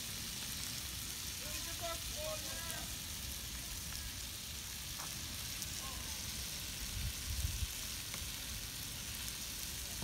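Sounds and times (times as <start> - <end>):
fire hissing and crackling: 0.0 - 10.0.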